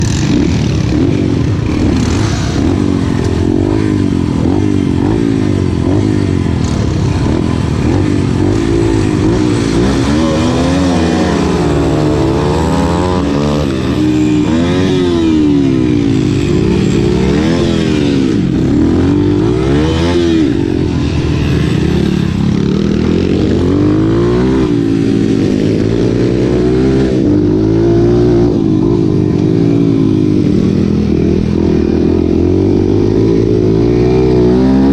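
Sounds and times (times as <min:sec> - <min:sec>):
racing motorcycle engines revving: 0:00.0 - 0:34.9.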